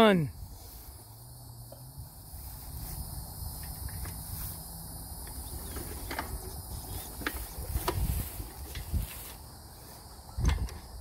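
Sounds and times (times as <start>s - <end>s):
insects chirring in grass: 0.0s - 11.0s.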